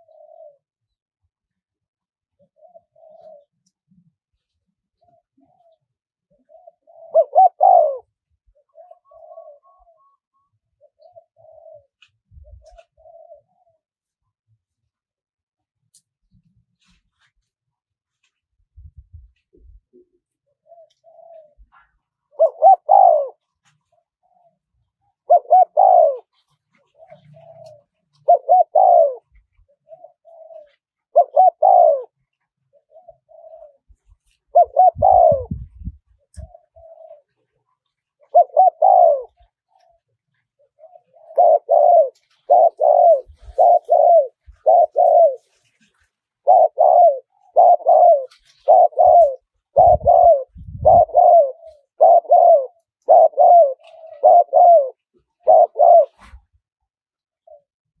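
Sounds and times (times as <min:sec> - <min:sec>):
dove cooing: 0:00.0 - 0:00.8, 0:02.4 - 0:04.1, 0:05.0 - 0:13.8, 0:18.9 - 0:37.6, 0:38.2 - 0:56.5, 0:57.4 - 0:57.7.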